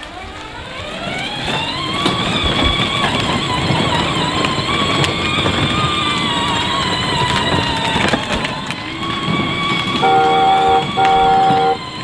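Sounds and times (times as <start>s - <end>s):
toy truck motors whining: 0.0s - 12.0s
wheels rumbling over concrete: 0.0s - 12.0s.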